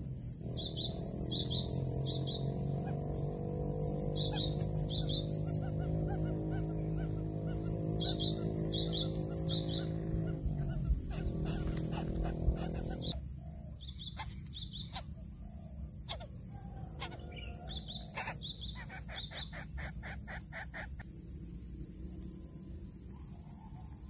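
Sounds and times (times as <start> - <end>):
chicks cheeping: 0.0 - 15.2, 16.1 - 21.2.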